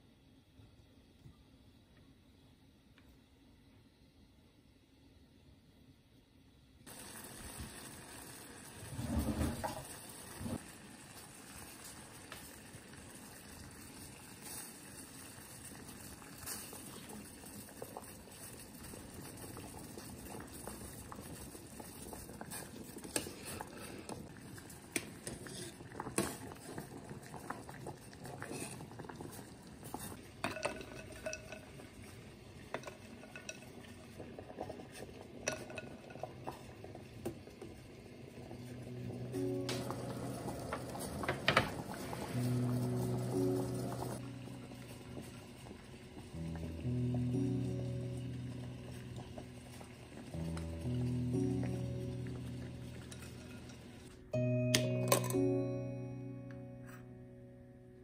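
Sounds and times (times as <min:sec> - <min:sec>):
water boiling in a saucepan: 0:06.8 - 0:54.3.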